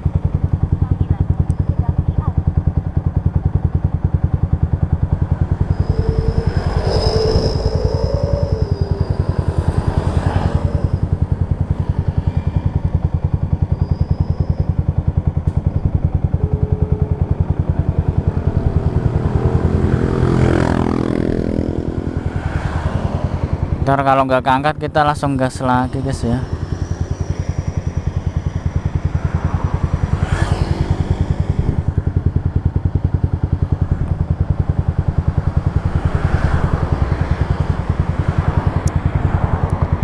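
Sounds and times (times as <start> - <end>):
motorcycle engine idling: 0.0 - 22.1, 24.8 - 40.0
traffic passing: 4.0 - 14.0, 14.6 - 24.0, 24.8 - 34.0, 34.6 - 40.0.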